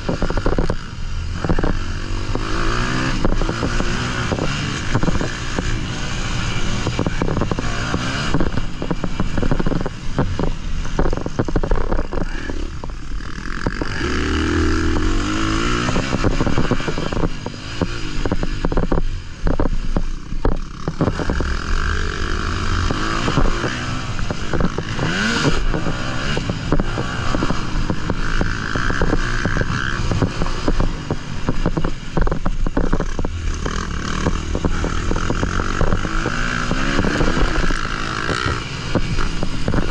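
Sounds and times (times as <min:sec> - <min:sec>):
dirt bike engine revving: 0:00.0 - 0:39.9
wind noise: 0:00.0 - 0:39.9.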